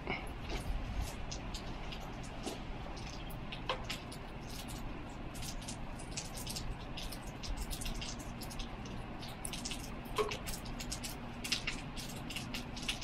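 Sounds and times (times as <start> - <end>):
low steady rumble: 0.0 - 13.0
water dripping: 0.0 - 13.0.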